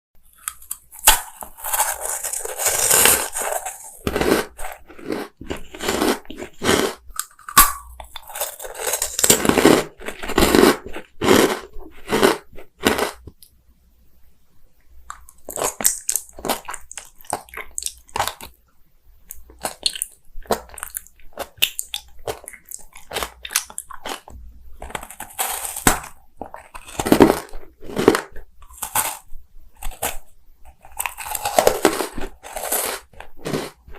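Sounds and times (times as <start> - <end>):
crunchy bites and chewing: 0.3 - 13.4, 15.1 - 18.5, 19.3 - 33.9.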